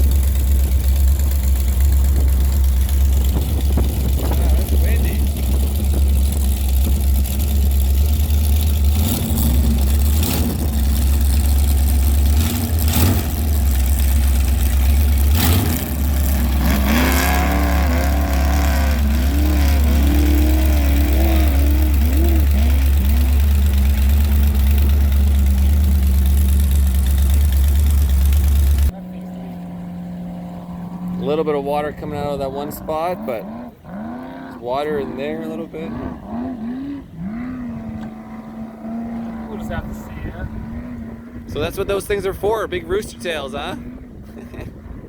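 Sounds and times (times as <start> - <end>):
boat engine rumbling and revving: 0.0 - 45.0.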